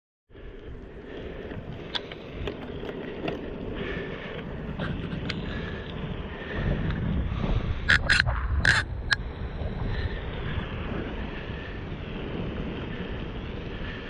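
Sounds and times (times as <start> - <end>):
wind over microphone: 0.3 - 14.0
bike clicks: 0.4 - 14.0.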